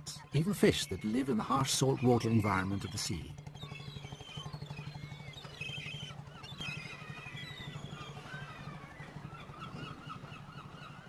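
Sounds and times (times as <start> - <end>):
gulls calling: 0.0 - 11.0
idling boat engine chugging: 0.1 - 11.0.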